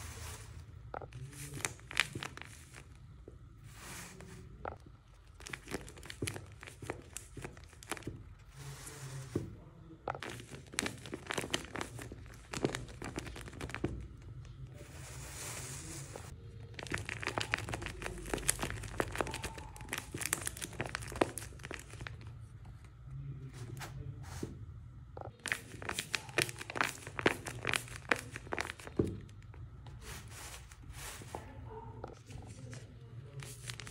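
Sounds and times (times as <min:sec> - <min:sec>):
paper crinkling and crackling: 0:00.0 - 0:09.5, 0:10.1 - 0:22.6, 0:25.3 - 0:33.9.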